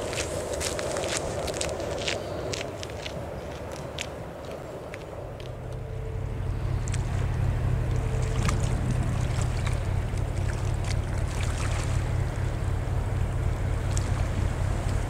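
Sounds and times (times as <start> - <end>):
ship diesel engine hum: 0.0 - 15.0
wind buffeting microphone: 0.0 - 15.0.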